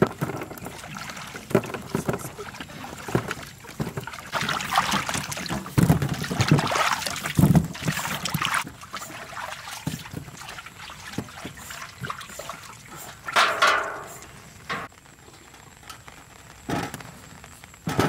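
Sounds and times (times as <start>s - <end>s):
water splashing in a metal basin: 0.0s - 14.9s
water dripping: 0.0s - 15.1s.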